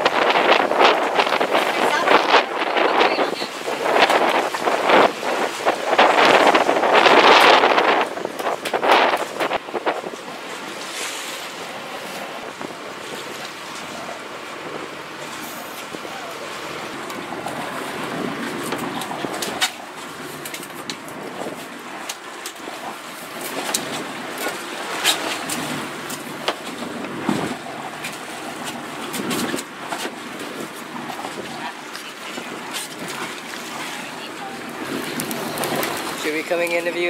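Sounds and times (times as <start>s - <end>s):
wind: 0.0s - 37.0s.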